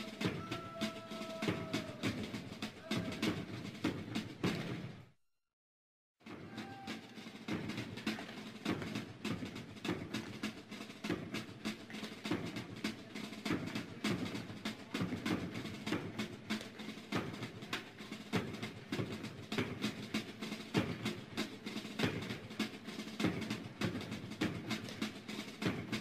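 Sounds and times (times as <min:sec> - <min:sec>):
snare drumming with rolls: 0:00.0 - 0:05.1, 0:06.2 - 0:26.0.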